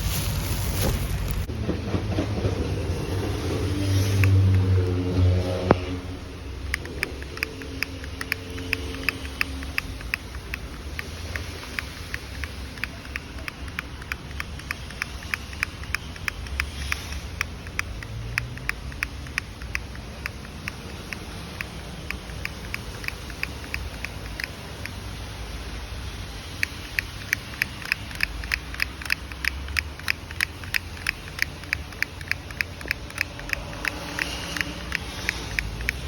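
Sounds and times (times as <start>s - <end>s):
regular sharp clicking: 3.9s - 36.0s.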